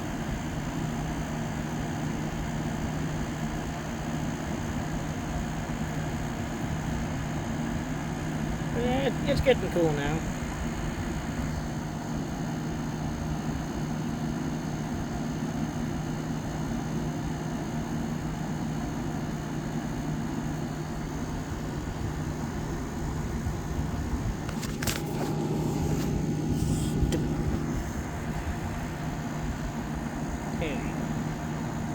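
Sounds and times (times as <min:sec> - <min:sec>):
air conditioner hum: 0:00.0 - 0:31.9
fan rushing: 0:00.0 - 0:31.9.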